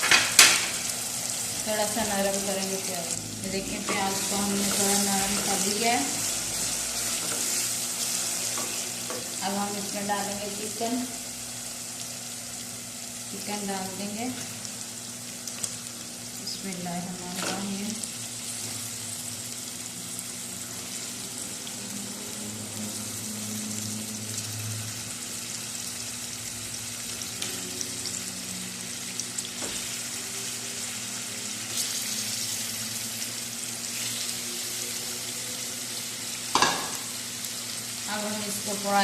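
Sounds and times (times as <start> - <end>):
chicken sizzling in hot oil: 0.0 - 39.0.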